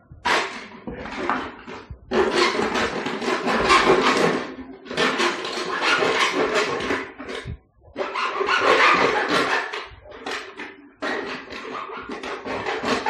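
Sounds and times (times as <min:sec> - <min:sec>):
metal tool scraping plastic jar: 0:00.2 - 0:13.0.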